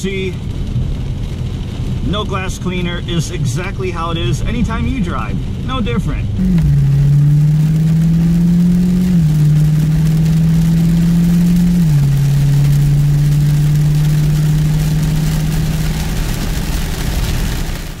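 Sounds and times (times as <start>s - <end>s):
rain and wet tyres hissing: 0.0s - 18.0s
car engine shifting gears: 0.3s - 18.0s.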